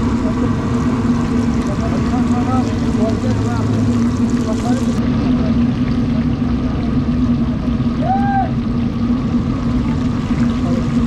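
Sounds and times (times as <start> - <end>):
fish deep-frying in oil: 0.0 - 11.0
low hum: 0.0 - 11.0.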